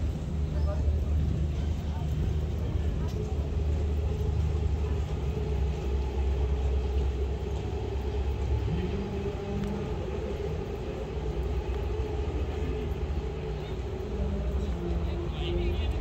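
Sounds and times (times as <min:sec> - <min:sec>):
city traffic rumbling: 0:00.0 - 0:16.0.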